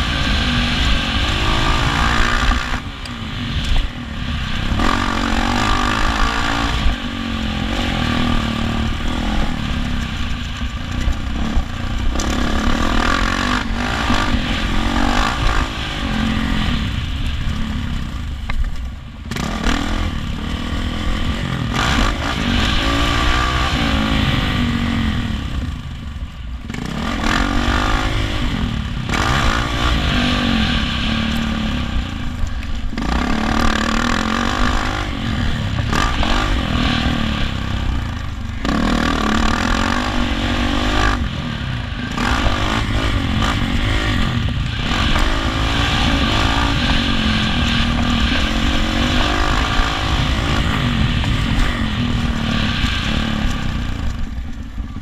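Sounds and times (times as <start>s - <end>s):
motocross bike engine revving: 0.0s - 18.4s, 19.2s - 55.0s
wind rumble on microphone: 0.0s - 55.0s.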